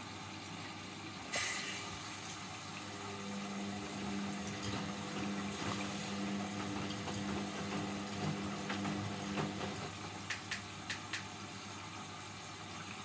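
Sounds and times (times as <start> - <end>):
drain pump humming: 0.0 - 13.0
water running: 0.0 - 13.0.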